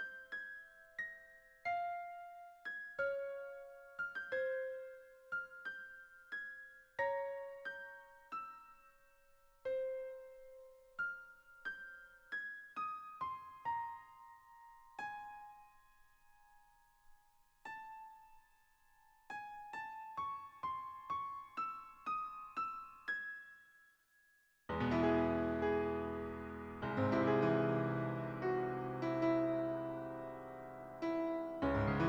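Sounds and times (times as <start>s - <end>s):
solo piano melody: 0.0s - 23.7s, 24.7s - 32.0s.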